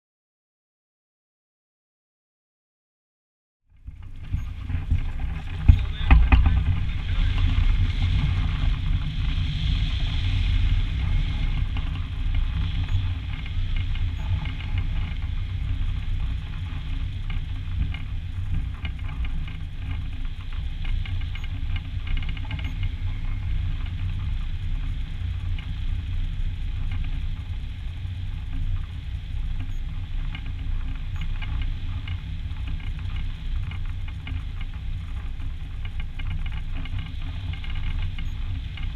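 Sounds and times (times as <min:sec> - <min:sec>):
wind buffeting microphone: 0:03.8 - 0:38.9.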